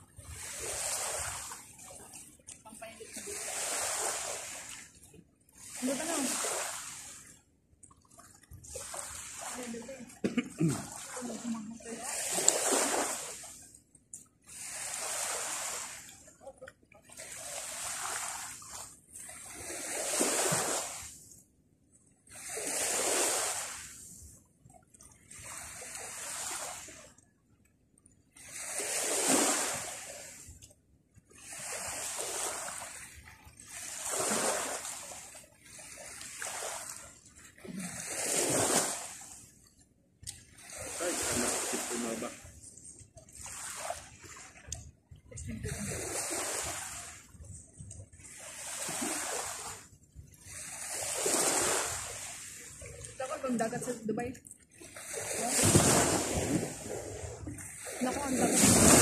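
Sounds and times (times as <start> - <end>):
small waves washing onto shore: 0.0 - 21.6, 22.2 - 27.2, 27.8 - 59.0.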